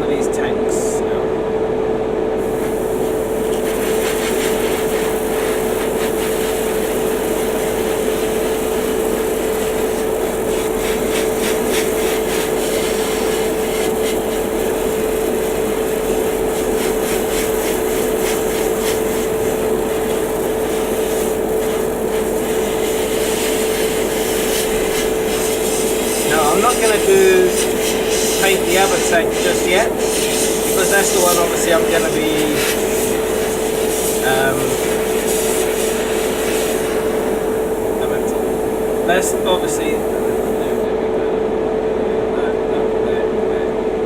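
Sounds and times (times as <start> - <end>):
compressor humming: 0.0 - 44.0
airbrush spraying hiss: 2.4 - 40.9.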